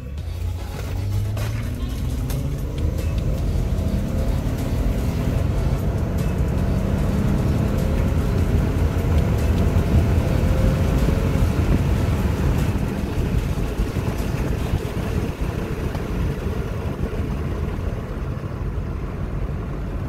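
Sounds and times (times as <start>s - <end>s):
engine and road noise in cabin: 0.0s - 20.0s.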